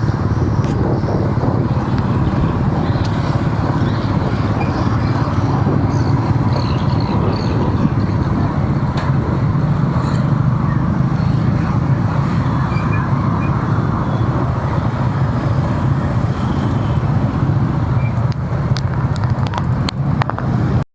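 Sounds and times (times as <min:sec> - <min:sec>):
road and engine rumble: 0:00.0 - 0:20.9.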